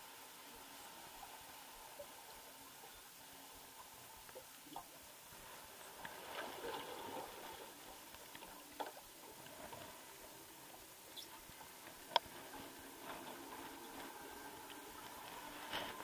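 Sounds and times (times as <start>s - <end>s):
water sloshing and gurgling: 0.0s - 16.0s.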